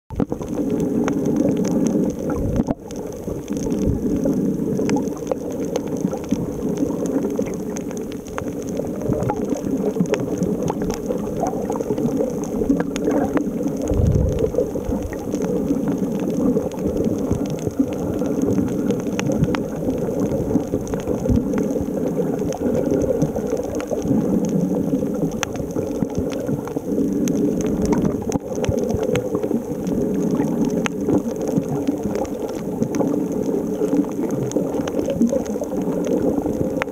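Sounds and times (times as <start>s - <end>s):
faint underwater clicks and crackles: 0.1s - 36.9s
muffled underwater wash: 0.1s - 36.9s.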